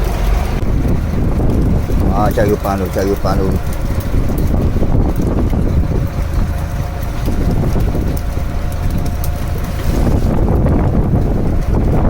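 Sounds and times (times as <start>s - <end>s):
boat engine low rumble: 0.0s - 12.0s
wind buffeting microphone: 0.0s - 12.0s.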